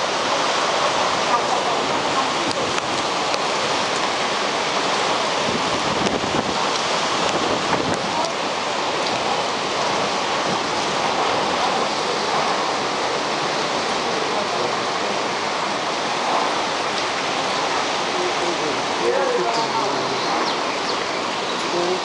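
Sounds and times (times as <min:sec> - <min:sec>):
wind-driven heavy rain: 0:00.0 - 0:22.0.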